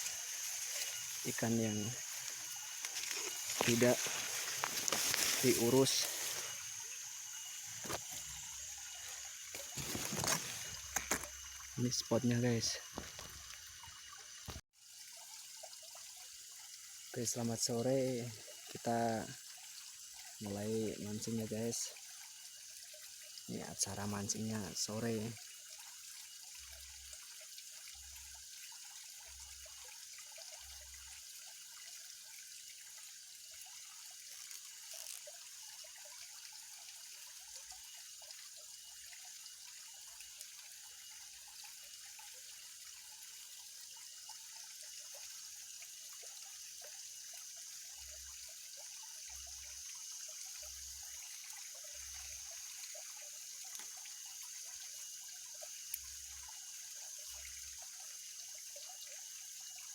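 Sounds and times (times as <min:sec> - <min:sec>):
faint high hiss of pond ambience: 0:00.0 - 0:59.9.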